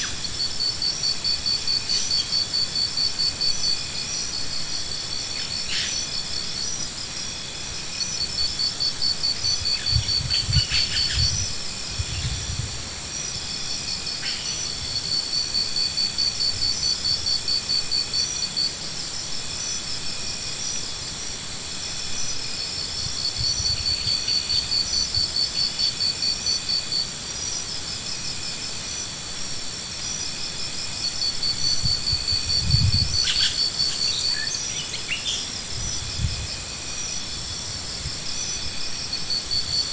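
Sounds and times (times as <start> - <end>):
insects buzzing: 0.0 - 39.9
shrill pulsed insect call: 0.0 - 39.9.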